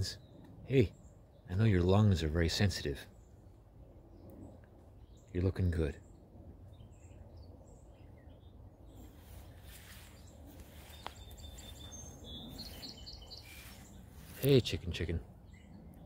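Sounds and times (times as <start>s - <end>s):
low background noise: 0.0s - 16.0s
faint bird chirps: 2.9s - 16.0s.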